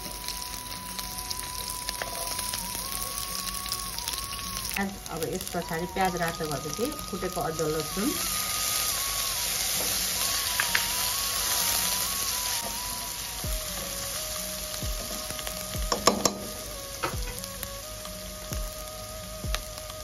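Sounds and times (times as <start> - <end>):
onions sizzling in hot oil: 0.0 - 20.0
soft background music: 0.0 - 20.0.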